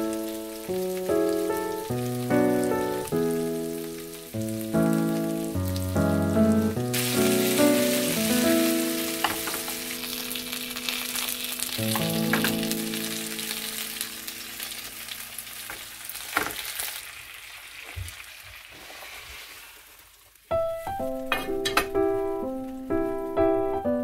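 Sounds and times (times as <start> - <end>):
dumplings sizzling in a pan: 0.0 - 23.1.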